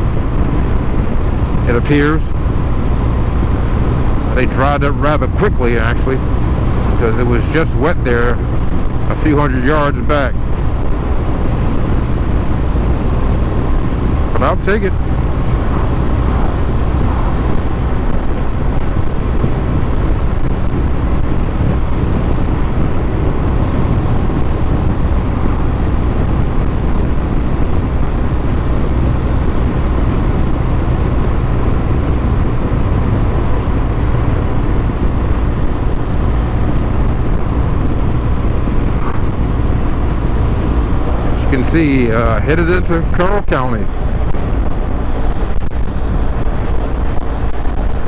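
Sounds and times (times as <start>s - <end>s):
motorcycle engine cruising: 0.0s - 48.0s
wind rush: 0.0s - 48.0s.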